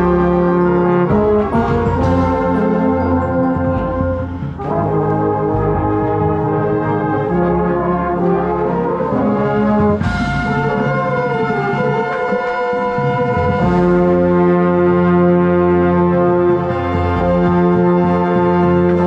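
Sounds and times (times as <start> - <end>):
brass accented hit: 0.0 - 8.8, 9.4 - 17.8
brass section playing chords: 0.0 - 19.0.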